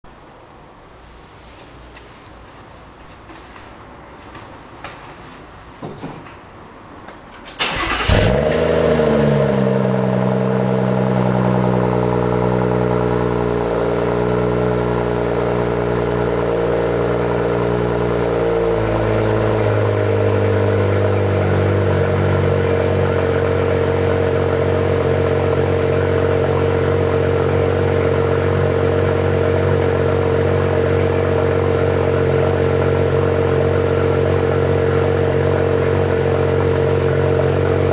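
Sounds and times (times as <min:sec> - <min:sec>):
car engine starting and idling: 0:07.2 - 0:37.9.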